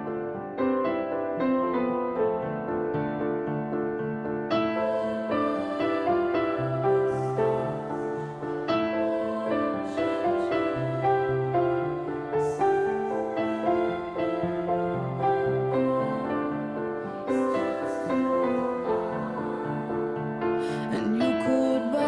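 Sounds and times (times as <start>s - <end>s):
slow piano ballad: 0.0s - 22.0s.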